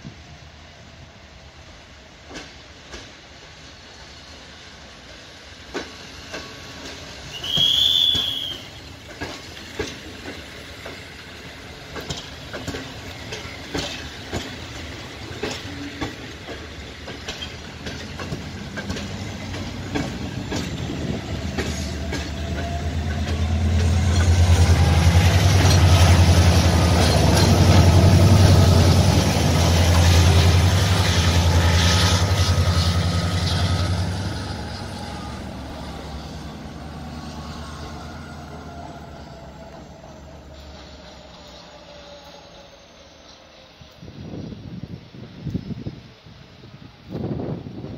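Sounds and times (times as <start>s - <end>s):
diesel locomotive engine passing: 0.0s - 47.9s
train wheels clicking over rail joints: 1.6s - 41.7s.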